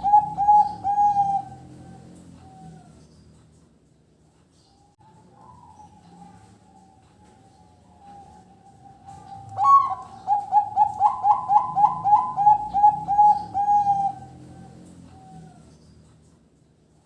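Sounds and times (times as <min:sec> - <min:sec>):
dove cooing: 0:00.0 - 0:03.0, 0:05.0 - 0:15.8.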